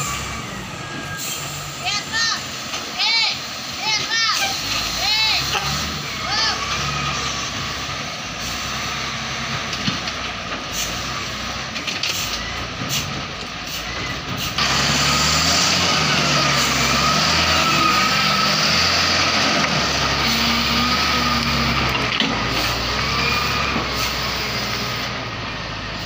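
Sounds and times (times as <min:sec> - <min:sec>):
diesel engine with whine: 0:00.0 - 0:26.0.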